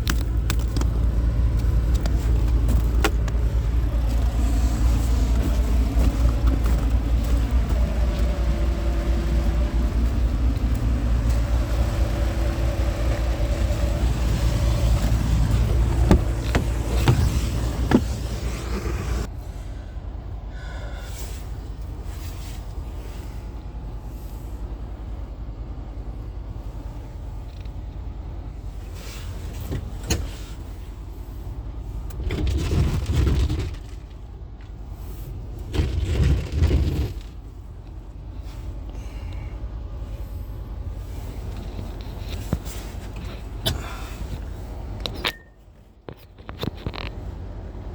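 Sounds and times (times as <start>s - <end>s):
vehicle engine rumble: 0.0s - 47.9s.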